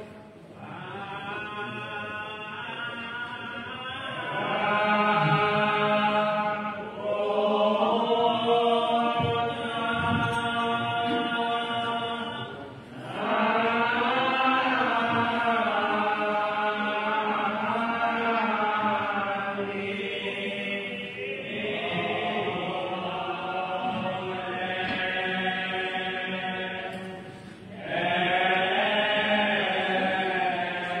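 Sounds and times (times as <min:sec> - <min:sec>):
slow religious chant: 0:00.0 - 0:31.0.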